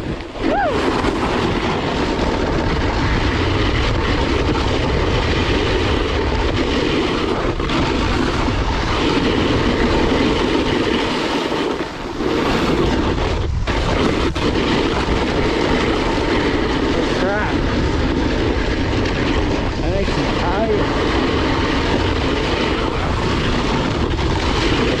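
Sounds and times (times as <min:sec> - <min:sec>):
snowboard sliding over snow: 0:00.0 - 0:25.0
wind buffeting microphone: 0:00.0 - 0:25.0.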